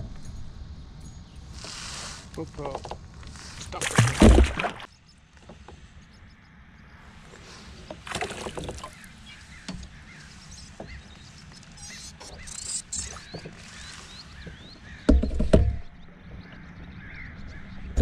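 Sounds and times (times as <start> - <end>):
wind and water rumble: 0.0 - 18.0.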